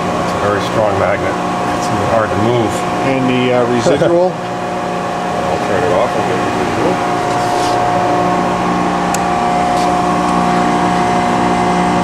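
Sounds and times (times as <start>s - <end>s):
grinder machine hum and whine: 0.0s - 12.0s.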